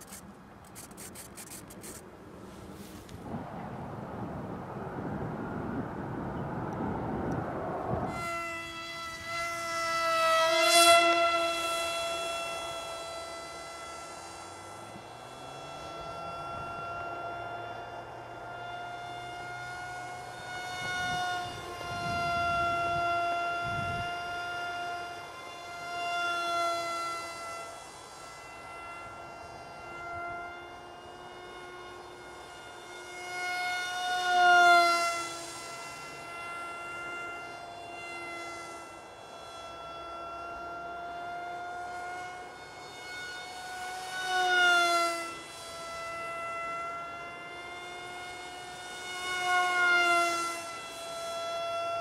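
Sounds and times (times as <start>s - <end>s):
electric motor and propeller whine: 0.0s - 52.0s.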